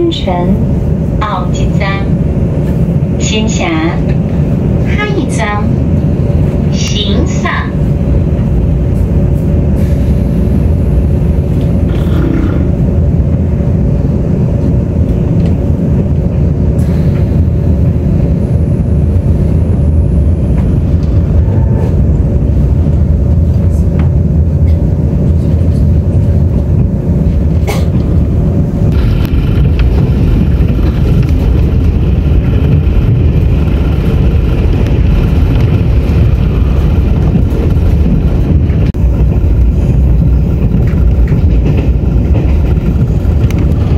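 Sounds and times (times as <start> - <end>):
train rumbling at speed: 0.0 - 43.9.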